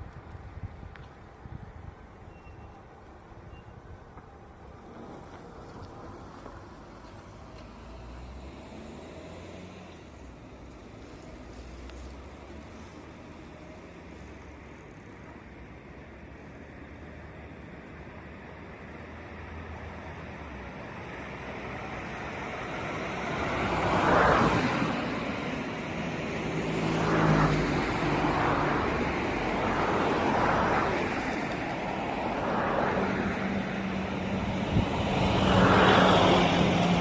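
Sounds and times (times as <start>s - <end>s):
vehicles passing: 0.0s - 37.0s.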